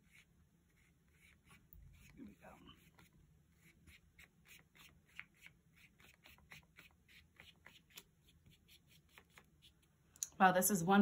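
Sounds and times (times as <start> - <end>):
paintbrush dabbing on paper: 0.0 - 9.9.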